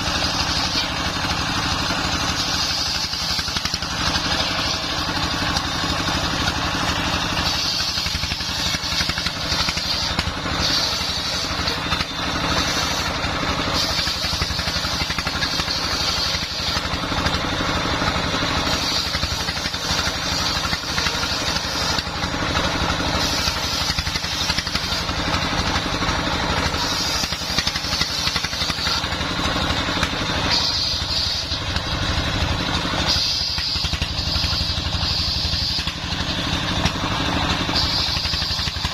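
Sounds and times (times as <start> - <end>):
circular saw cutting wood: 0.0 - 38.9
diesel engine running: 0.0 - 38.9.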